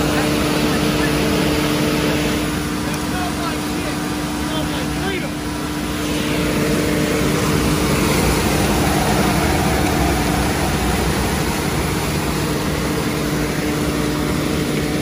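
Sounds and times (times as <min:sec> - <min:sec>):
truck machinery hum: 0:00.0 - 0:15.0
vacuum suction rushing: 0:00.0 - 0:15.0.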